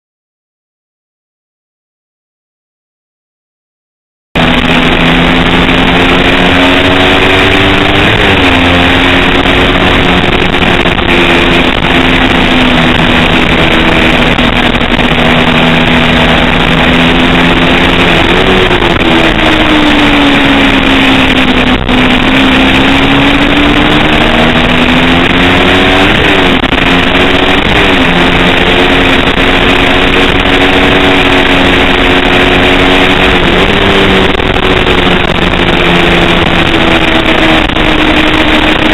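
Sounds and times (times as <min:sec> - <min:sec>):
racing motorcycle engine at high revs: 0:04.4 - 0:38.9.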